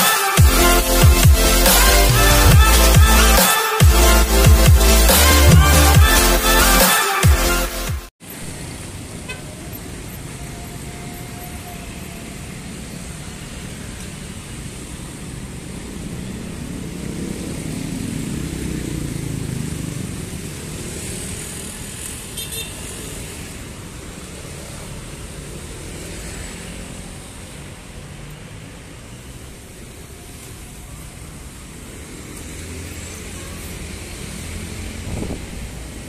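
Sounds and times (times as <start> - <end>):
cars and motorcycles passing: 0.0 - 36.0.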